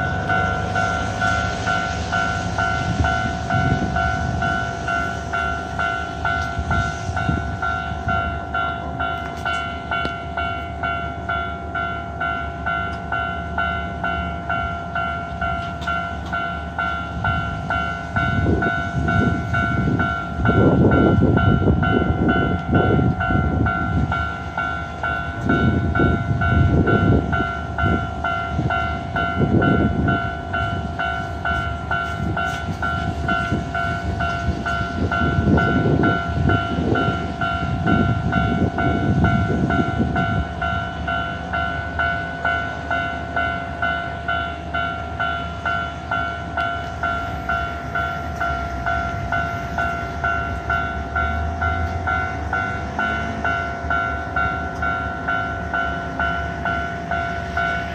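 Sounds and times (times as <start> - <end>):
level-crossing alarm ringing: 0.0 - 57.9.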